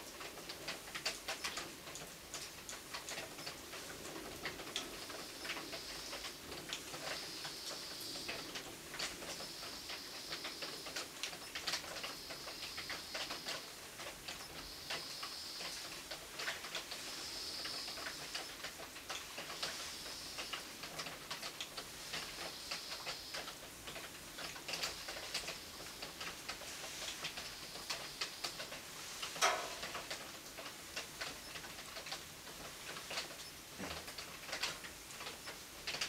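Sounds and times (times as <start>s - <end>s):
raindrops dripping on hard surface: 0.0s - 36.0s
faint high hiss: 1.0s - 35.9s.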